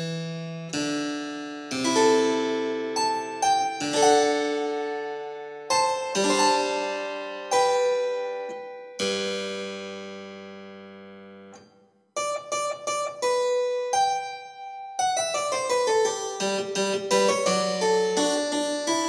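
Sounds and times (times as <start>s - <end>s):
solo keyboard music: 0.0s - 19.0s.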